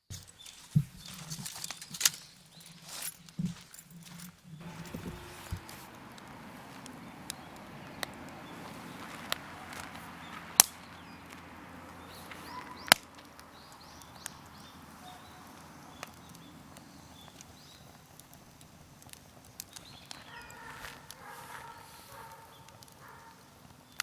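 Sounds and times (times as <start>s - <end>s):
firewood cracking: 4.6s - 24.0s.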